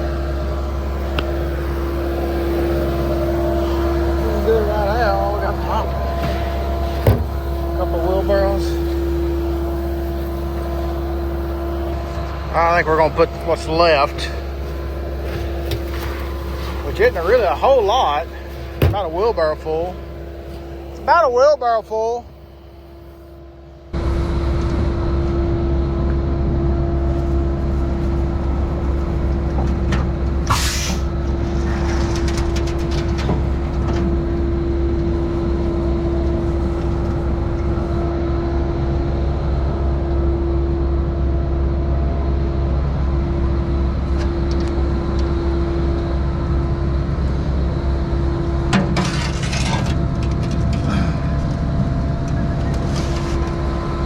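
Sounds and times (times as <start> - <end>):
concrete pump engine rumble: 0.0 - 54.0
hydraulic whine: 0.0 - 54.0.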